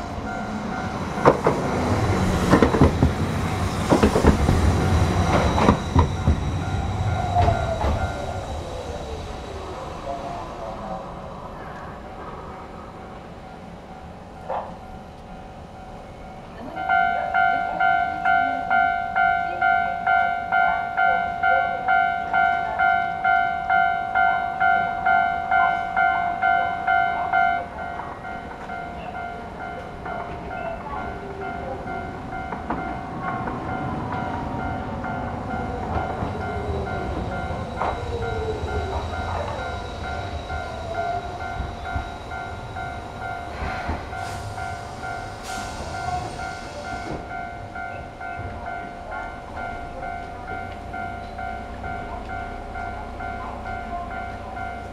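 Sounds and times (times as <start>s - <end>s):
level crossing alarm ringing: 0.0s - 10.2s, 13.0s - 54.9s
train rumble and whine: 0.0s - 54.9s.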